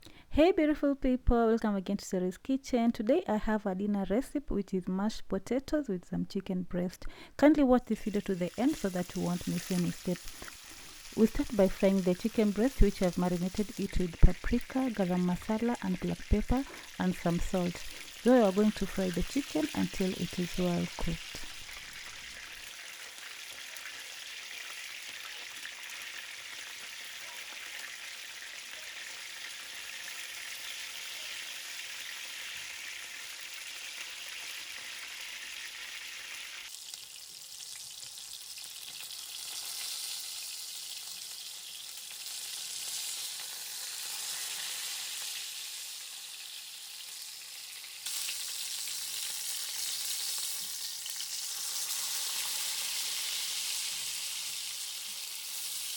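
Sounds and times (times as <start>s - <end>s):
chicken sizzling in frying: 7.8s - 55.9s.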